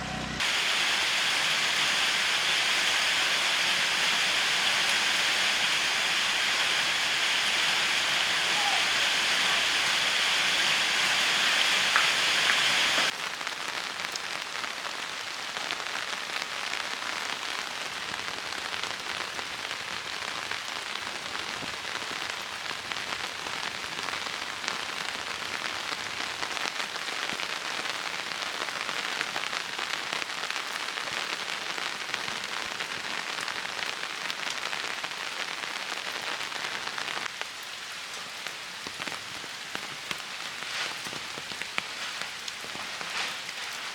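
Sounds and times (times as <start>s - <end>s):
rain falling: 0.4s - 43.9s.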